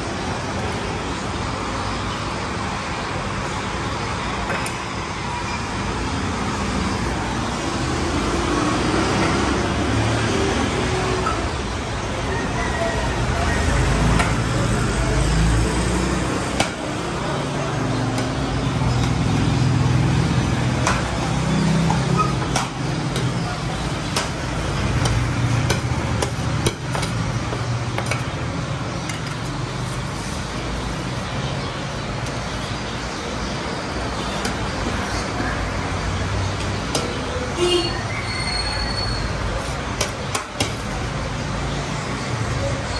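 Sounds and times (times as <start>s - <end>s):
street traffic hum: 0.0s - 42.9s.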